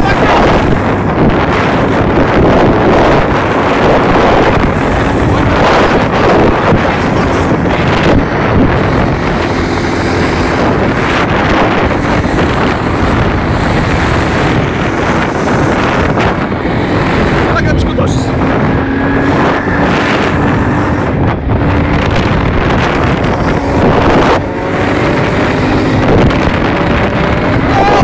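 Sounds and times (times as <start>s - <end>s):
vehicle engine running: 0.0s - 28.0s
wind buffeting microphone: 0.0s - 28.0s.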